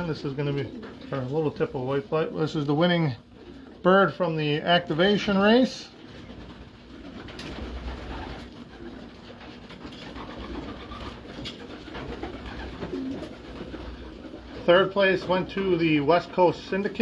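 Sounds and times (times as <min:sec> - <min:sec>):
pigeons cooing: 0:00.0 - 0:03.9, 0:05.9 - 0:17.0.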